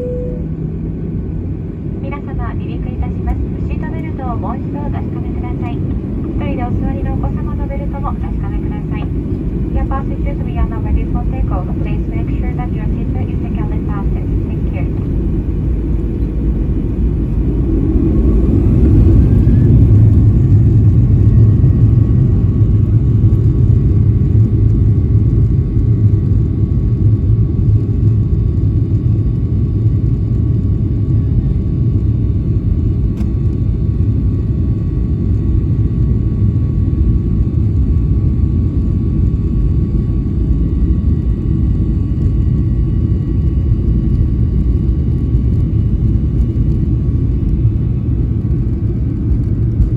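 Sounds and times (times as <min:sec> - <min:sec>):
jet engine rumble: 0:00.0 - 0:49.9.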